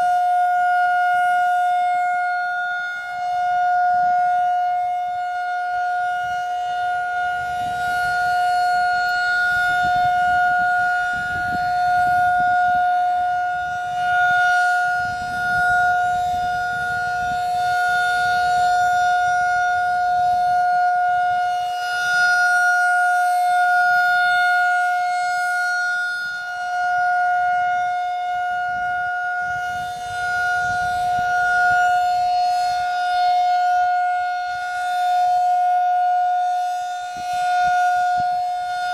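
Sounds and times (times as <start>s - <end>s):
rotating siren steady tone: 0.0s - 38.9s.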